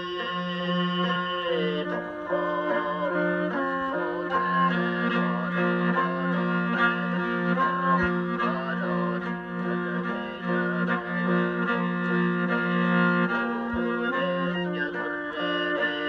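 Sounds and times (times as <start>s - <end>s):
bowed fiddle over low drone: 0.0s - 16.0s
plucked lute: 0.0s - 16.0s.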